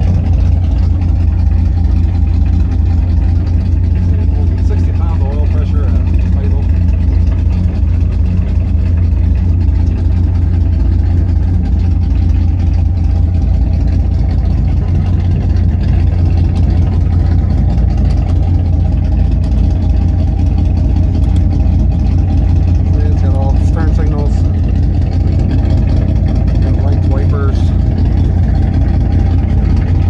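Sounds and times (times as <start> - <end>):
race car engine idling: 0.0 - 30.0.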